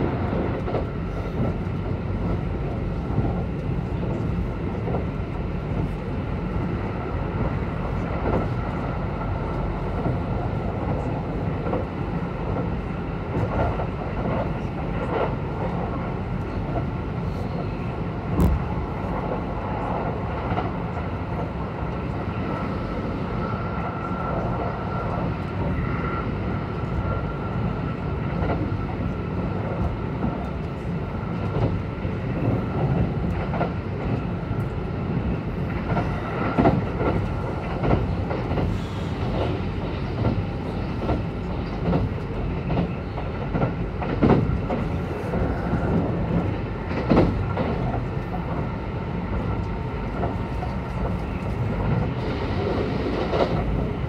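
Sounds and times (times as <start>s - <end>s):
high train whine: 0.0s - 54.0s
wheels rumbling on rail: 0.0s - 54.0s.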